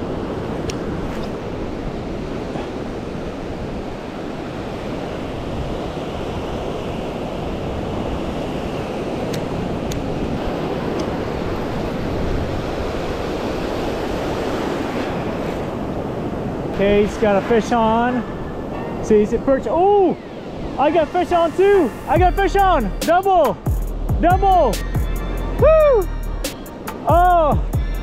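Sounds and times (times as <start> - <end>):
wind rumbling on microphone: 0.0 - 23.0
ocean surf breaking: 0.0 - 23.7, 26.5 - 27.6.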